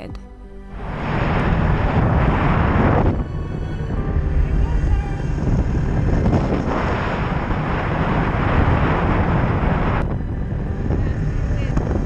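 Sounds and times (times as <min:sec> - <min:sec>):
wind buffeting microphone: 0:00.7 - 0:12.0
snowmobile engine running: 0:01.0 - 0:12.0.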